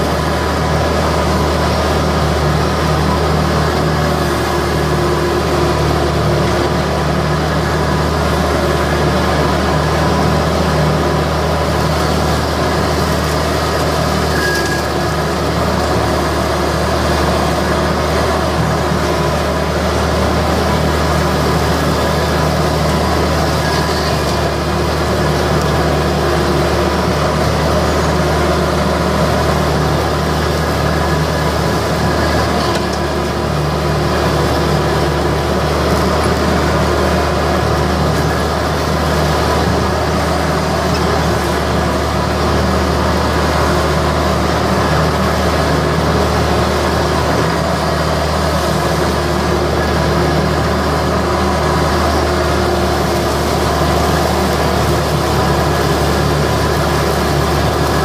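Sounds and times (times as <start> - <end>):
diesel mower engine running: 0.0 - 58.0
mower deck cutting grass: 0.0 - 58.0.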